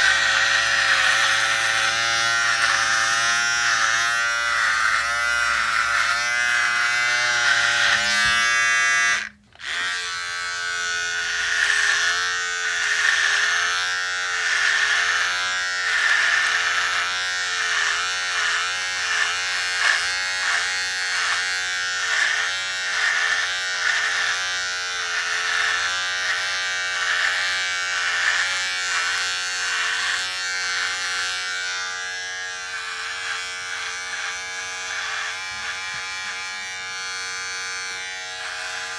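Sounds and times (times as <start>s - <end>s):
electric shaver buzzing: 0.0s - 38.9s.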